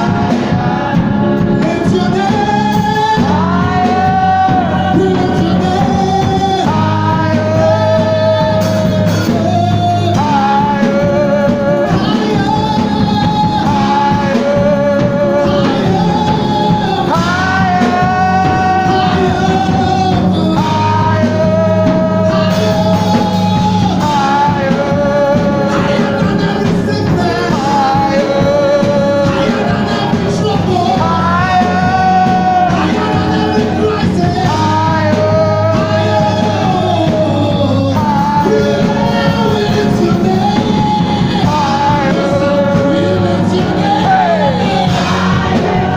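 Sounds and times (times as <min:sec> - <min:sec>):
person singing: 0:00.0 - 0:45.9
steady beat: 0:00.0 - 0:45.9
sustained bass: 0:00.0 - 0:45.9.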